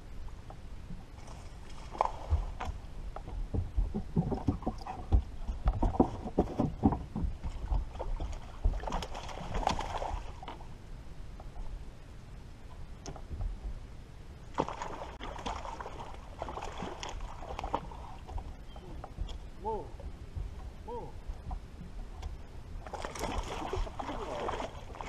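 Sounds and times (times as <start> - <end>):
waves lapping against boat hull: 0.9 - 10.8, 14.4 - 25.0.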